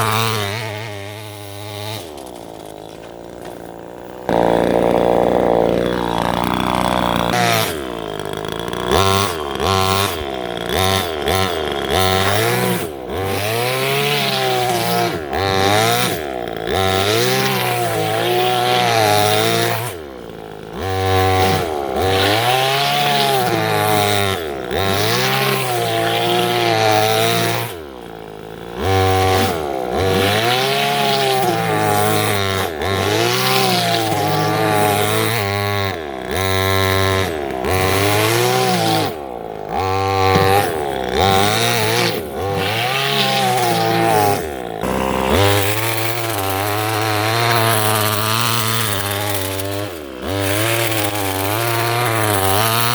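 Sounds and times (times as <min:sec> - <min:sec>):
two-stroke engine revving: 0:00.0 - 0:52.9.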